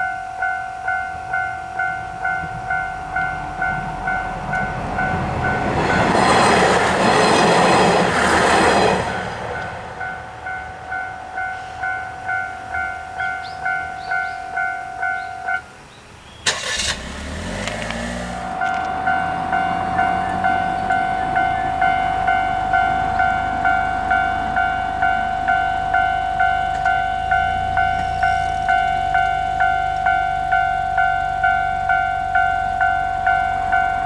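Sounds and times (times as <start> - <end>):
level-crossing bell clanging: 0.0 - 15.8, 18.6 - 34.0
train passing loudly: 0.0 - 34.0.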